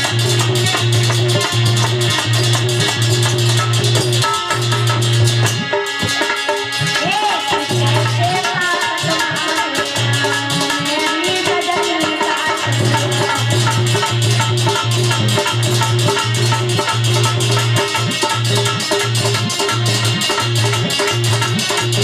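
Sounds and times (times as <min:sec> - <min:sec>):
fast rattling percussion: 0:00.0 - 0:22.0
hand drums: 0:00.0 - 0:22.0.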